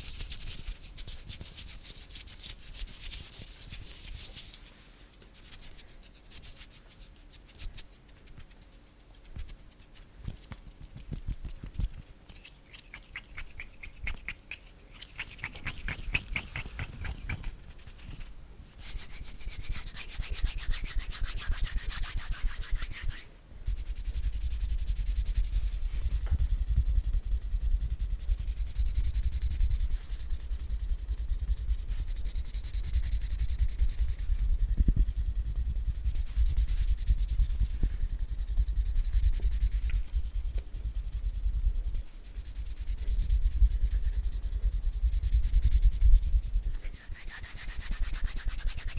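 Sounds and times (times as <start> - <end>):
hands rubbing together: 0.1 - 48.9.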